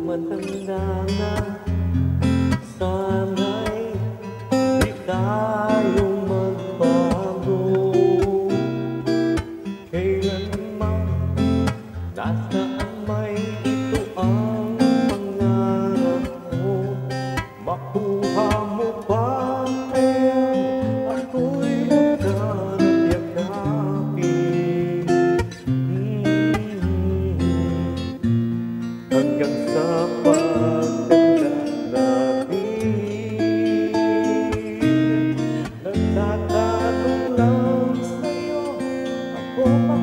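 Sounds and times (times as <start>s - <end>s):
acoustic guitar: 0.0s - 40.0s
man singing a slow ballad: 0.0s - 40.0s.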